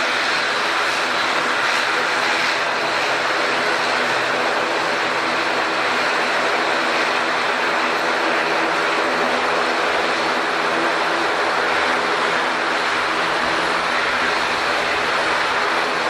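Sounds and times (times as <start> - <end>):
airliner engines droning: 0.0 - 16.0.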